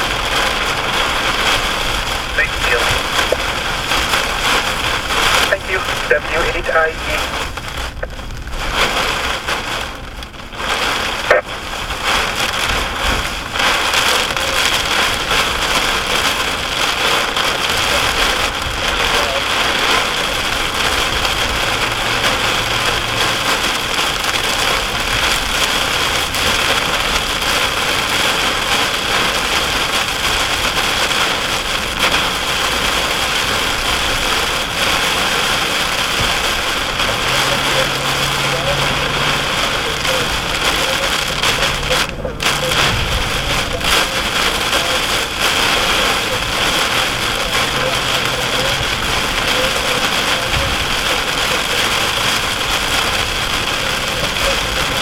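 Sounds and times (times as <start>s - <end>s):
engine running low: 0.0s - 55.0s
heavy rain on a vehicle: 0.0s - 55.0s.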